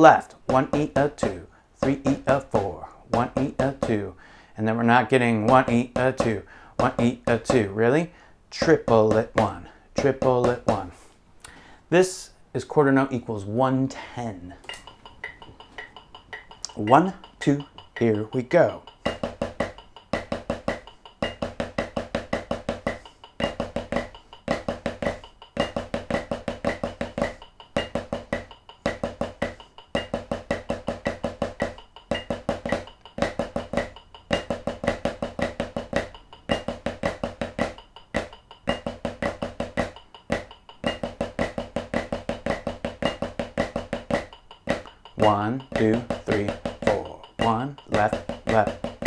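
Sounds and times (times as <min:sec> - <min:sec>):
snare drum played with sticks: 0:00.0 - 0:04.2, 0:04.9 - 0:07.8, 0:08.5 - 0:11.1, 0:14.6 - 0:49.0.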